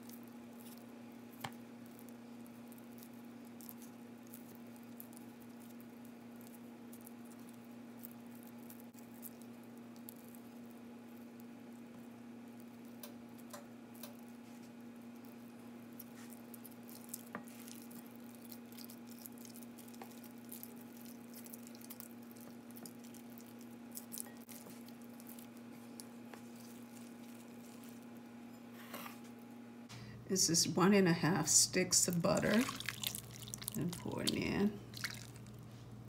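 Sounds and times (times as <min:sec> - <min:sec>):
hands squishing soft food: 0:00.0 - 0:28.3, 0:32.1 - 0:35.8
steady low hum: 0:00.0 - 0:36.0.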